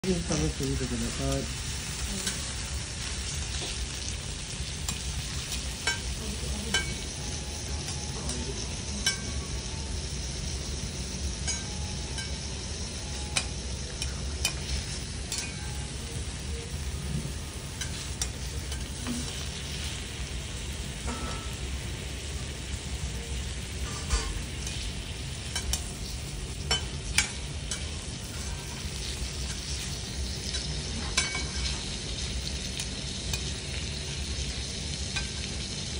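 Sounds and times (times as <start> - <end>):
steak sizzling on a griddle: 0.0 - 35.9.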